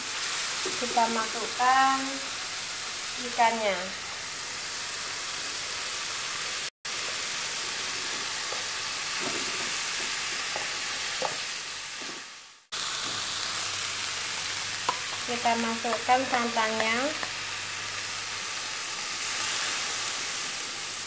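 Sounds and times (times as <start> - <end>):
paste sizzling in wok: 0.0 - 21.0.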